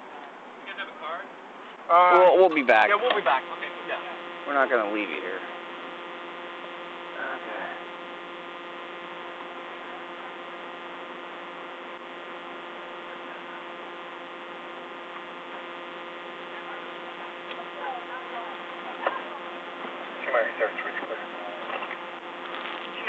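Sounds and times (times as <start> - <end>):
electrical hum with tones: 0.0 - 23.0.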